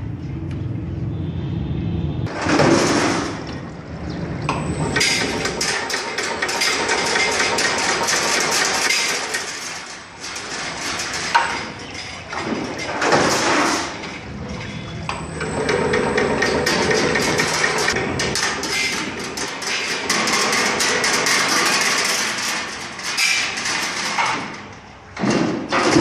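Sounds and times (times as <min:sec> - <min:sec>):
machine metallic clatter: 0:02.3 - 0:03.7, 0:04.5 - 0:26.0.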